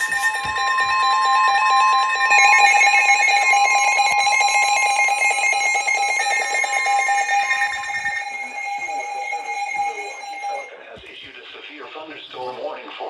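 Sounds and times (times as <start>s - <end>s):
rapid pulsing electronic beeping: 0.0s - 11.0s
steady high alarm tone: 0.0s - 11.1s.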